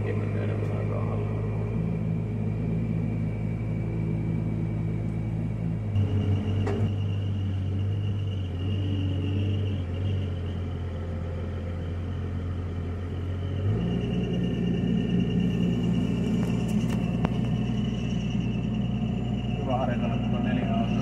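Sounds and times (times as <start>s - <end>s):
diesel engine running: 0.0s - 21.0s
faint steady whine: 0.0s - 21.0s.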